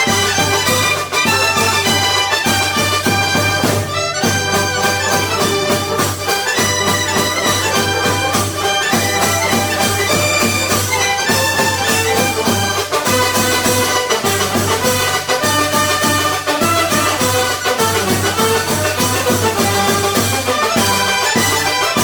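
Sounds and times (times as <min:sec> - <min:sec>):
upbeat music with accordion-like lead: 0:00.0 - 0:22.0.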